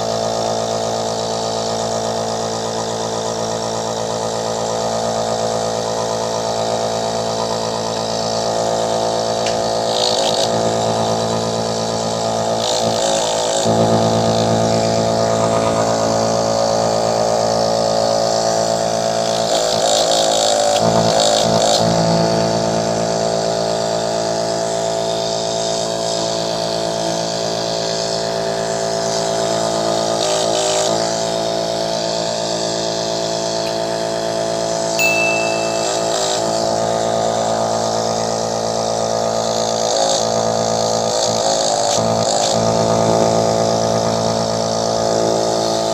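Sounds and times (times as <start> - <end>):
compressor buzzing hum: 0.0 - 45.9.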